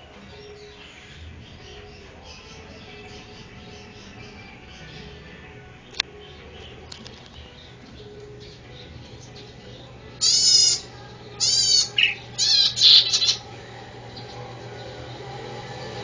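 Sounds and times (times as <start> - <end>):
bird chirping: 0.0 - 16.0
steady low hum: 0.0 - 16.0.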